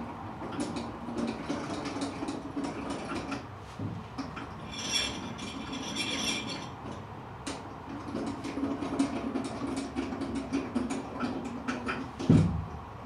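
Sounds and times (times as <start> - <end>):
pulley clicks and creaks: 0.4 - 3.5, 4.2 - 12.3.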